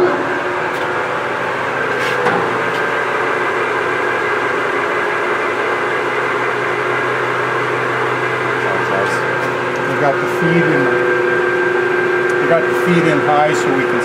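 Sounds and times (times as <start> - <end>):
lathe running: 0.0 - 14.0.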